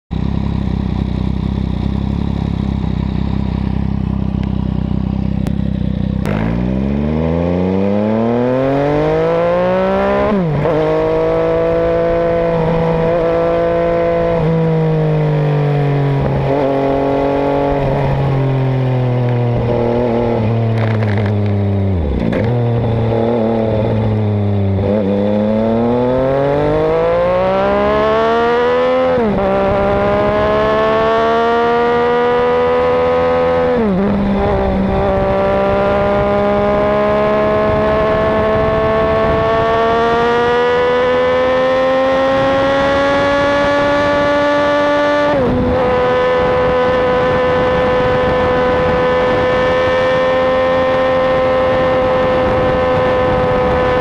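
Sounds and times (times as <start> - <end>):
motorcycle engine revving: 0.1 - 54.0.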